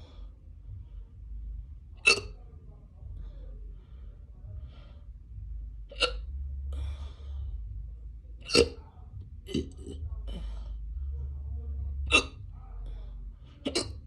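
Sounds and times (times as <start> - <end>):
faint breathing: 0.0 - 1.8, 2.9 - 9.4, 10.1 - 13.7.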